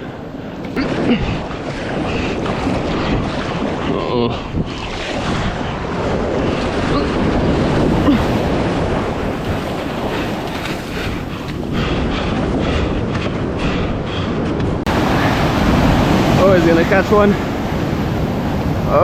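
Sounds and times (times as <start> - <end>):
surf breaking on shore: 0.0 - 19.0
wind buffeting microphone: 0.0 - 19.0.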